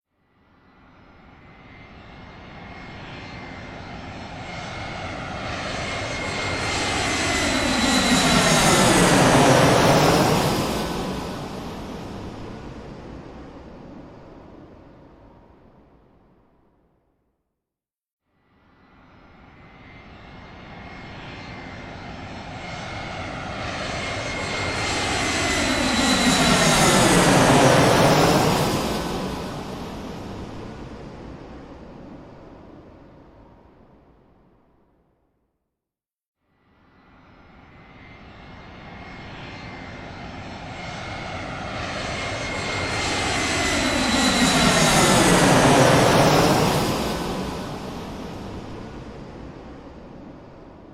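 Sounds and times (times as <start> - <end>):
airplane flying overhead: 0.3 - 16.1, 18.6 - 34.2, 36.6 - 50.9.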